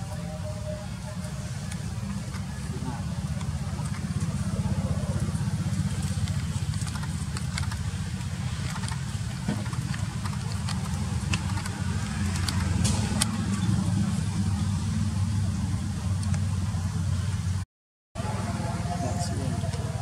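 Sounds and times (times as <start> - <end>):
steady low rumble: 0.0 - 17.6.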